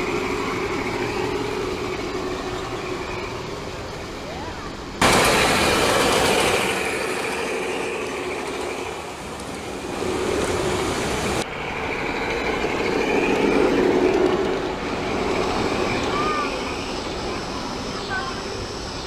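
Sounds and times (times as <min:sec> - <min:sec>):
model train wheels rolling on rail: 0:00.0 - 0:19.0.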